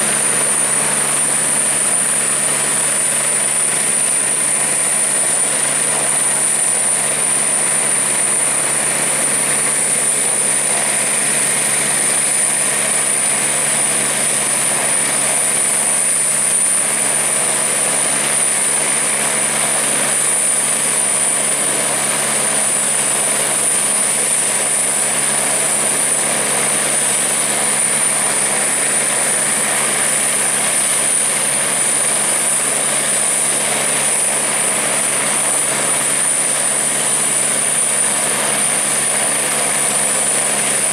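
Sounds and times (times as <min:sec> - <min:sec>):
helicopter turbine and rotor noise: 0:00.0 - 0:40.9
high-pitched whine: 0:00.0 - 0:40.9.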